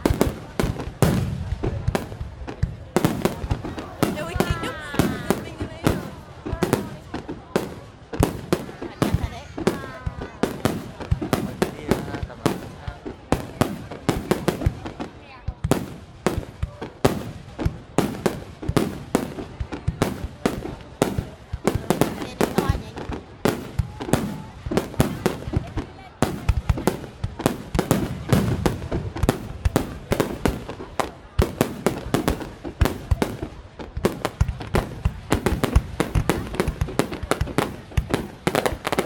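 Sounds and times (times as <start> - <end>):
fireworks bursting with sharp bangs: 0.0 - 39.0.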